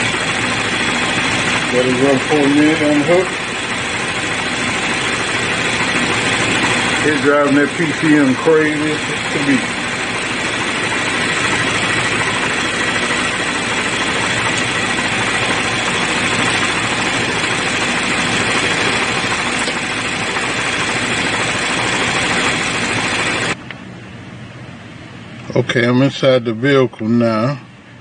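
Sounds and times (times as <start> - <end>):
car engine idling: 0.0 - 23.6.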